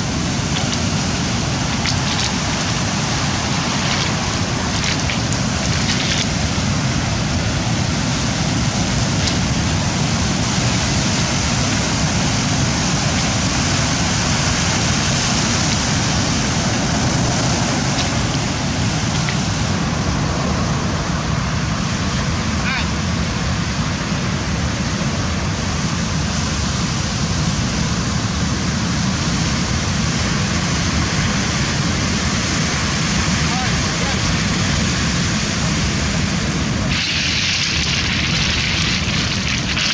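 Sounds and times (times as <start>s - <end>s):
surf breaking on shore: 0.0s - 39.9s
wind on microphone: 0.0s - 39.9s.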